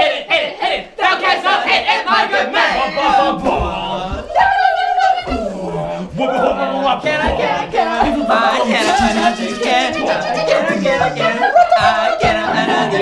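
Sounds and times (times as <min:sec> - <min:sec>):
voices singing a cappella: 0:00.0 - 0:13.0.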